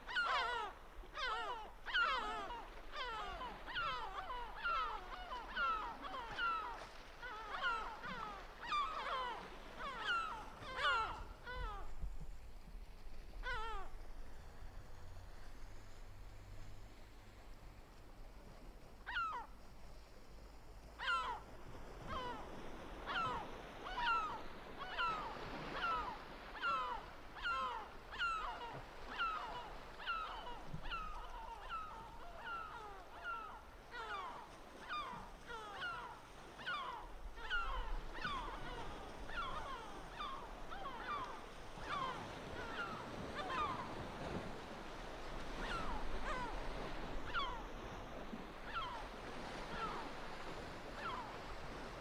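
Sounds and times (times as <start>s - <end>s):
gull calling: 0.0s - 12.0s, 13.4s - 14.0s, 19.1s - 19.5s, 21.0s - 21.4s, 22.0s - 48.0s, 48.6s - 51.8s.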